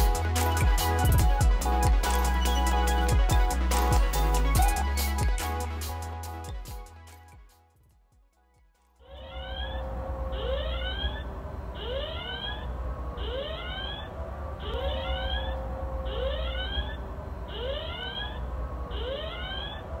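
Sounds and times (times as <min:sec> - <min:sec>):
electronic alarm siren whooping: 0:00.0 - 0:06.8, 0:09.0 - 0:20.0.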